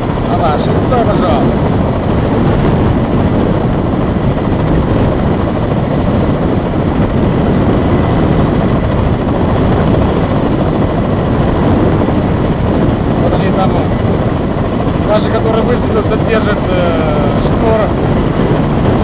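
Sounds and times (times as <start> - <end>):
helicopter hovering: 0.0 - 19.0.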